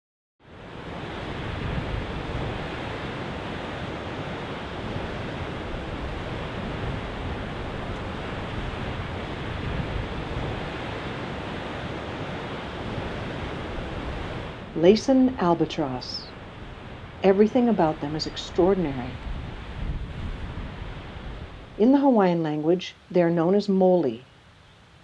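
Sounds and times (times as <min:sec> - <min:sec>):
ocean waves breaking: 0:00.5 - 0:22.1.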